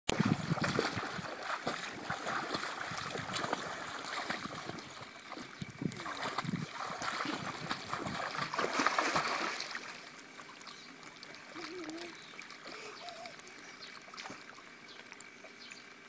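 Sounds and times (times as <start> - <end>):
water splashing in a pool: 0.1 - 16.0.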